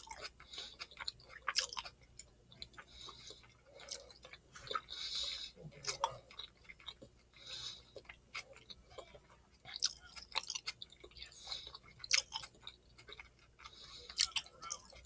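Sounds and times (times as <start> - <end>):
person chewing with wet mouth clicks: 0.0 - 15.0.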